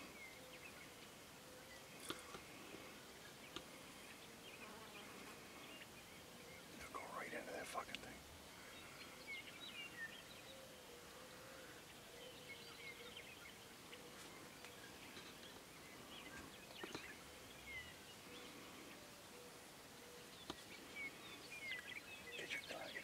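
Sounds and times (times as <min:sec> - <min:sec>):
distant small birds chirping: 0:00.0 - 0:23.0.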